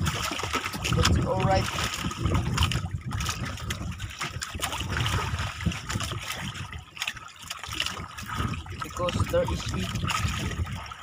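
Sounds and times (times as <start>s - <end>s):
water splashing around boat hull: 0.0s - 11.0s.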